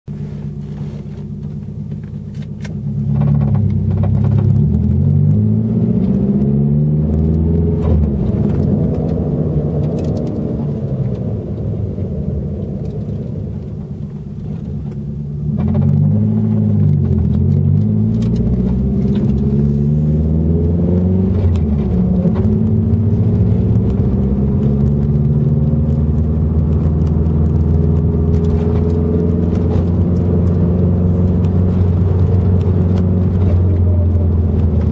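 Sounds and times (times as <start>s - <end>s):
car engine accelerating: 0.1s - 34.9s
differential whine: 0.1s - 34.9s.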